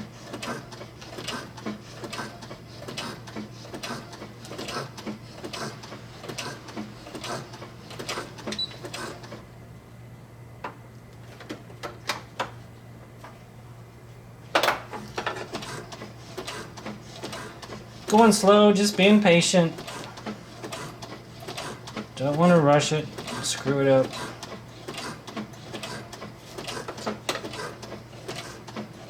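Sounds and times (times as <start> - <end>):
sewing machine motor hum: 0.0 - 9.4, 15.1 - 29.0.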